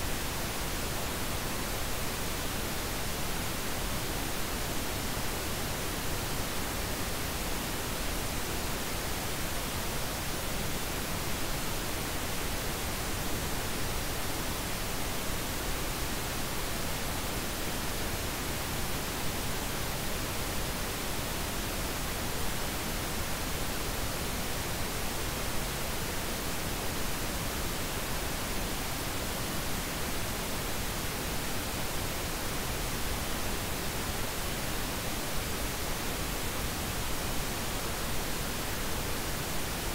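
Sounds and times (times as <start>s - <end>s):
steady noise hiss: 0.0s - 39.9s.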